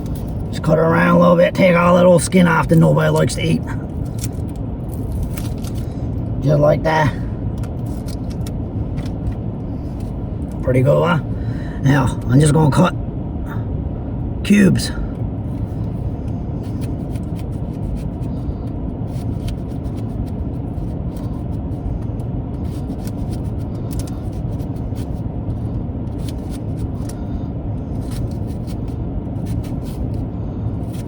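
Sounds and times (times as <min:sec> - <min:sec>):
low rumble: 0:00.0 - 0:01.6, 0:02.4 - 0:31.0.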